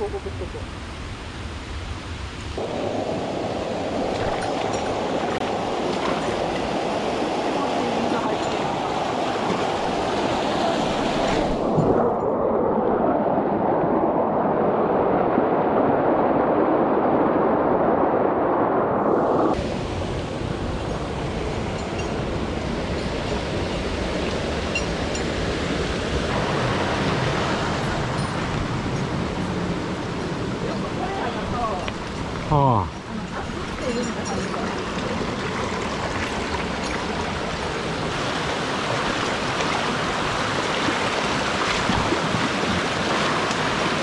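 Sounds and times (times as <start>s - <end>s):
mountain stream rushing: 0.0s - 44.0s.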